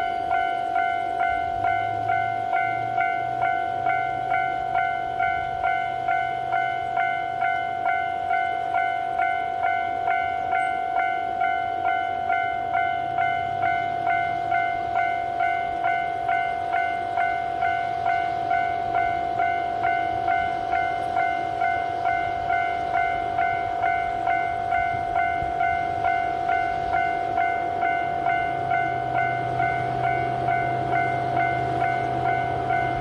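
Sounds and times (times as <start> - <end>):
level crossing alarm bell: 0.0 - 33.0
steady alarm tone: 0.0 - 33.0.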